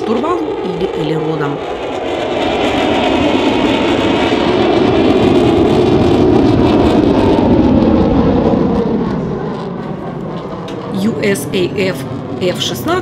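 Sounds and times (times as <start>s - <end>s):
jet engine roar in flight: 0.0s - 13.0s.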